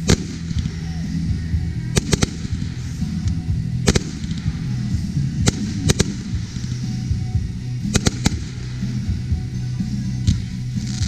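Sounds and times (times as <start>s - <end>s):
fireworks bursting in sharp bangs: 0.0s - 9.6s, 10.2s - 11.0s.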